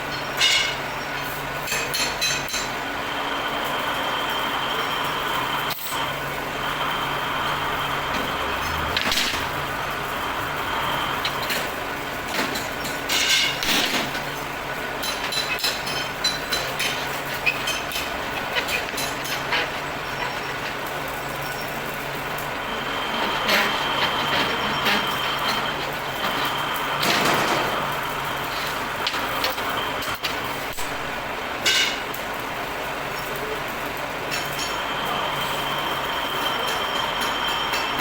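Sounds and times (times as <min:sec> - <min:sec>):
machinery running: 0:00.1 - 0:38.0.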